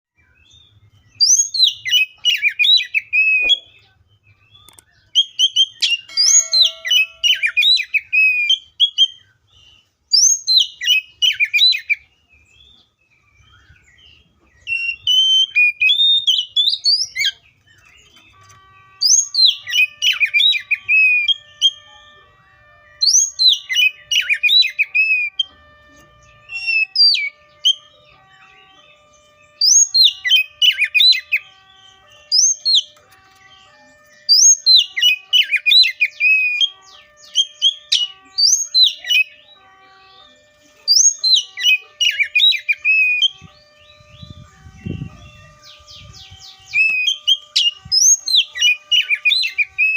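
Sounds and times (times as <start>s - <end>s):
bird singing whistled notes: 0.2s - 49.9s.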